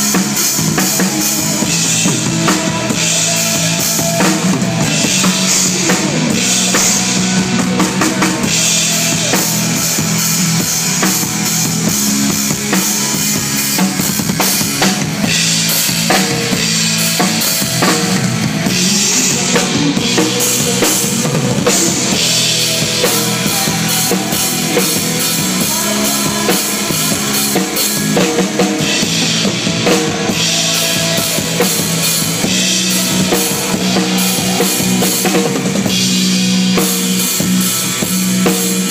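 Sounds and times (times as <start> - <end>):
drum kit hits: 0.0 - 38.9
live rock band through pa: 0.0 - 38.9.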